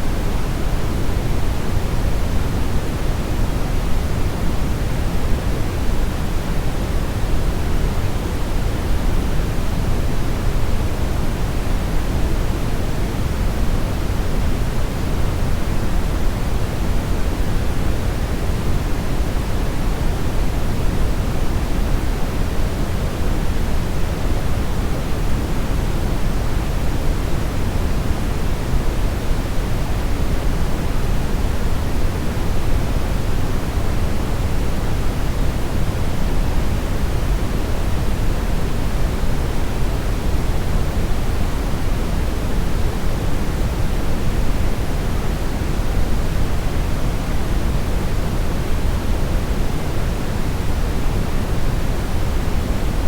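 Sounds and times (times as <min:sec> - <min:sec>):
brown noise rumbling hiss: 0:00.0 - 0:53.0.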